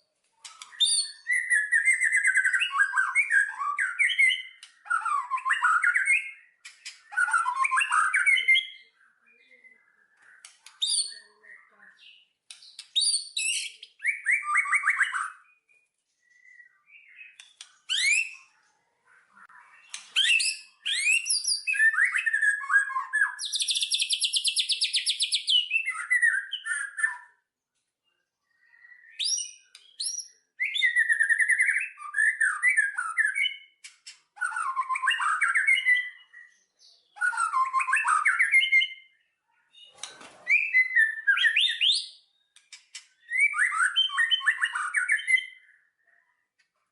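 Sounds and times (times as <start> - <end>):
songbirds chirping and singing: 0.0 - 46.9.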